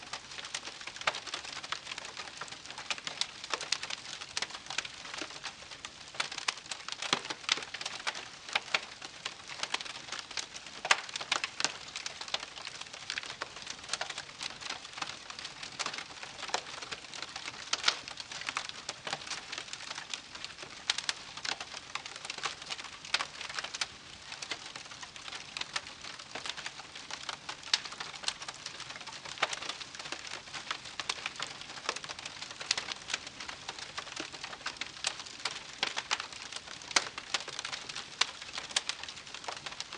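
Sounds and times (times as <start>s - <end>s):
campfire crackling and popping: 0.0s - 39.9s
soft hiss of burning: 0.0s - 39.9s.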